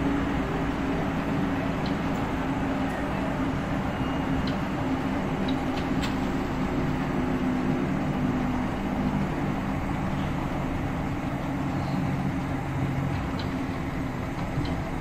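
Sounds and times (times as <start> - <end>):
electric train motors humming: 0.0 - 15.0
wheel and track rumble: 0.0 - 15.0.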